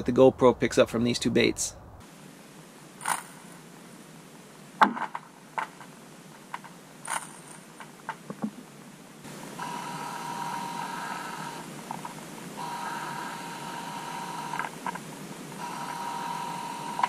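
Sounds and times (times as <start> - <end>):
buzzing hum with whine: 1.8 - 17.0.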